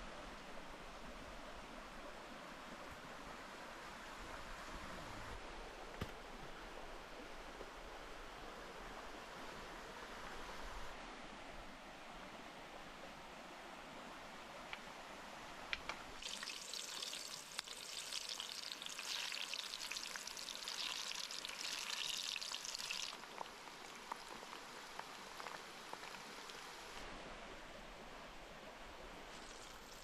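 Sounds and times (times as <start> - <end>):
small river running: 0.0 - 30.0.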